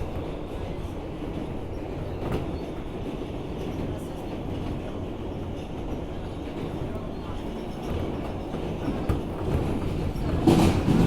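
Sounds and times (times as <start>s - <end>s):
subway car rumbling in tunnel: 0.0s - 11.0s.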